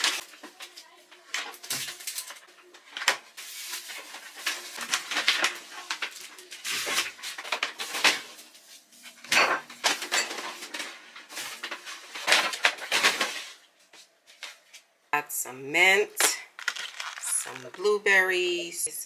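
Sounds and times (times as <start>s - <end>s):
food items set down: 0.0s - 14.8s, 16.2s - 18.0s
grocery bags rustling: 0.0s - 14.9s, 16.3s - 18.5s.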